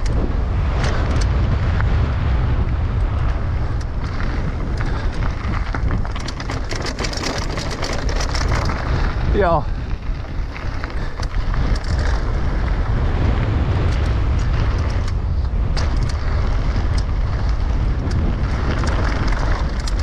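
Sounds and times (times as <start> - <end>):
bike clicks and rattles: 0.0 - 20.0
wind buffeting microphone: 0.0 - 20.0
tyres rolling on dirt: 2.9 - 20.0.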